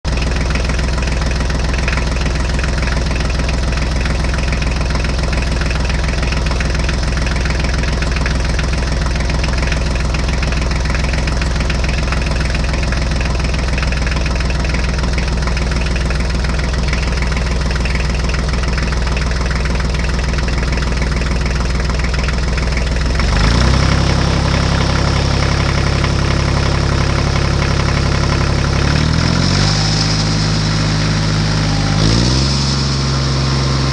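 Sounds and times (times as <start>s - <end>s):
tractor engine idling with knocking: 0.0s - 33.9s.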